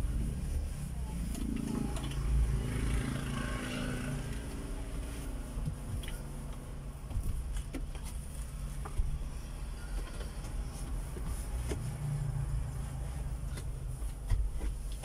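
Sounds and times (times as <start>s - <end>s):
vehicle rumble inside cab: 0.0s - 15.0s.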